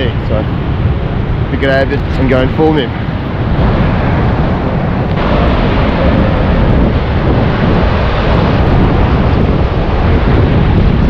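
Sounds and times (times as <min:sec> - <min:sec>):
heavy surf breaking: 0:00.0 - 0:11.0
wind on microphone: 0:00.0 - 0:11.0.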